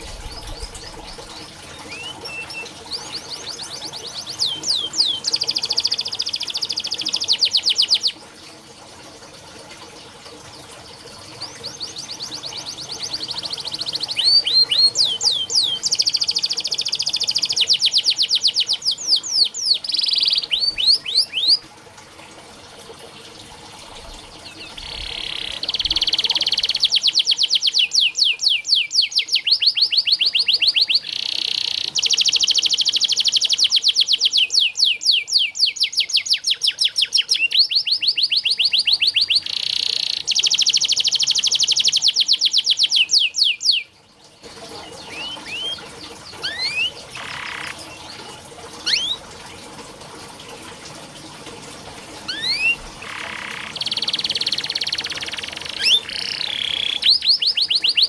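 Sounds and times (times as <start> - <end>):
canary singing trills: 0.0 - 8.2, 11.4 - 21.6, 24.4 - 43.9, 44.8 - 49.2, 52.3 - 58.0.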